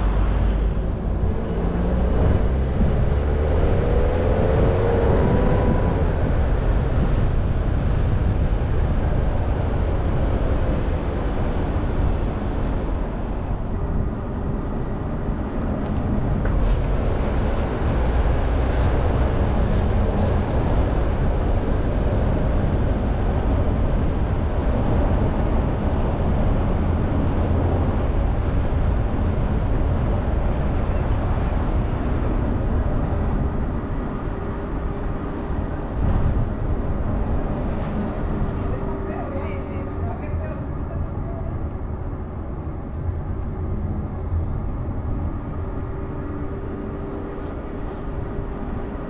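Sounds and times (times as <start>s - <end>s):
car engine: 0.0s - 49.0s
road noise: 0.0s - 49.0s.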